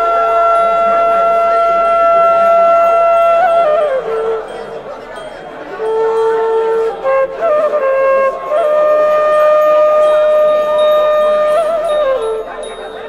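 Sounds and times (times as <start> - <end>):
slow solo melody with trills: 0.0 - 13.0.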